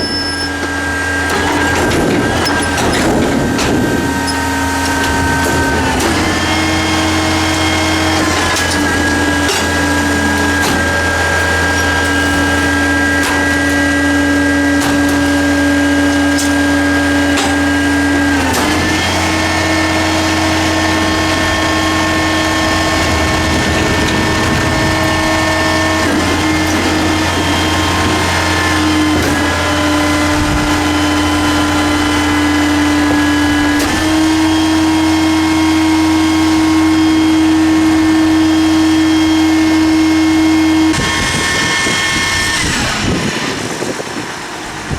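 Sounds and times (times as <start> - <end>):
diesel engine hum: 0.0 - 44.9
hydraulic pump whine: 0.0 - 44.9.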